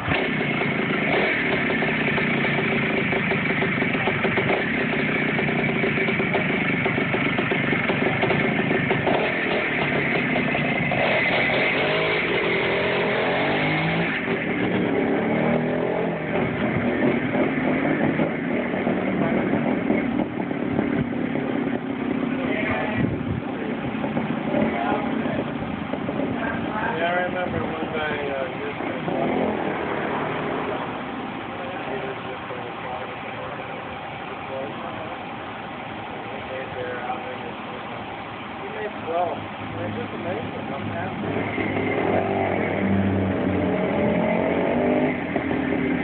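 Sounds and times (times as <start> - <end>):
motorcycle engine revving: 0.0 - 33.8, 38.6 - 46.0.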